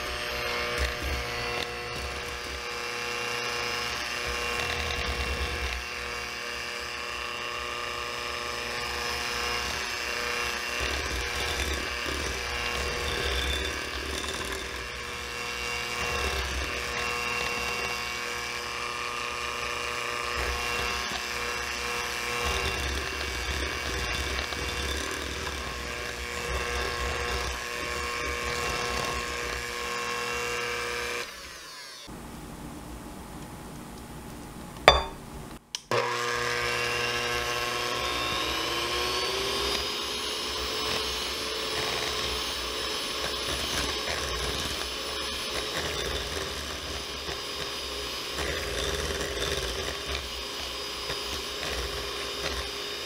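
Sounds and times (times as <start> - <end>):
electric hand mixer whine: 0.0 - 32.1, 35.9 - 53.0.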